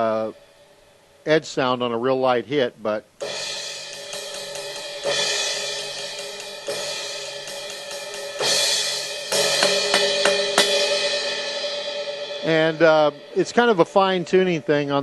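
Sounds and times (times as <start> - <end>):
electronic cymbal strikes ringing: 0.0 - 1.2, 3.2 - 15.0.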